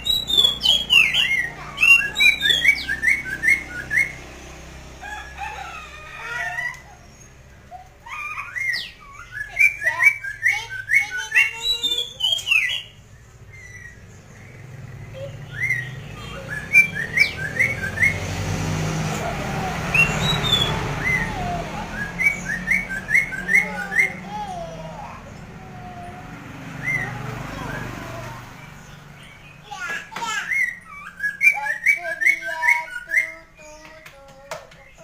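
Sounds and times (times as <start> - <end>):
songbird whistling phrases: 0.0 - 4.4, 5.1 - 18.5, 19.1 - 34.0.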